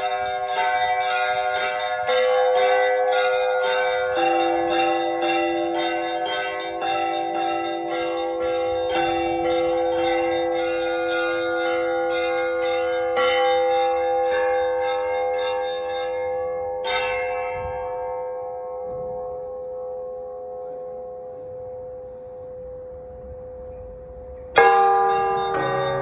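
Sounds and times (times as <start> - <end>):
hum of larger bells: 0.0 - 26.0.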